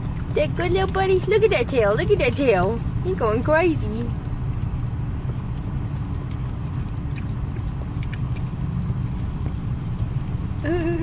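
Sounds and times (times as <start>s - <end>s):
car engine idling: 0.0s - 11.0s
dog licking ice cream: 0.0s - 11.0s.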